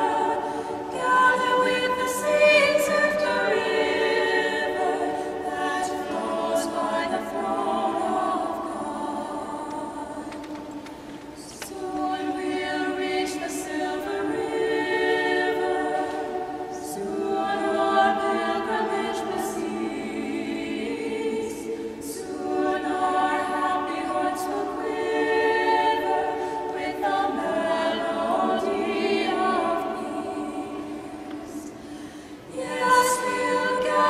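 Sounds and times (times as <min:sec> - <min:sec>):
choir singing sustained phrases: 0:00.0 - 0:34.0.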